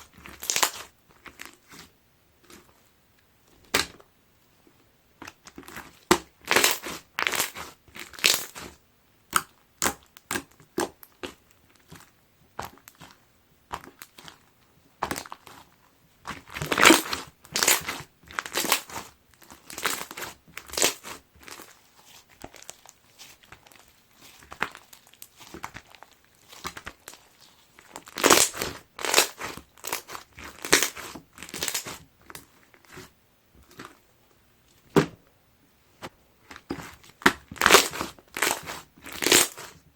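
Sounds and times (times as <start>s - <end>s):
slime with beads crunching: 0.0s - 1.9s, 5.2s - 14.4s, 16.3s - 34.0s, 36.5s - 39.8s.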